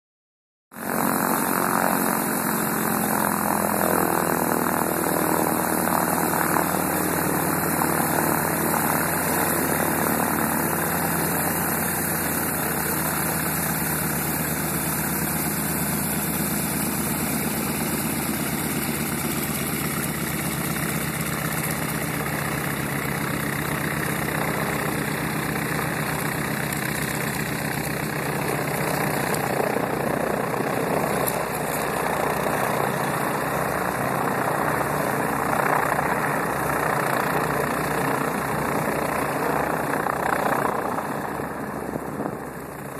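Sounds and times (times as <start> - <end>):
radial aircraft engine running: 0.8 - 42.9.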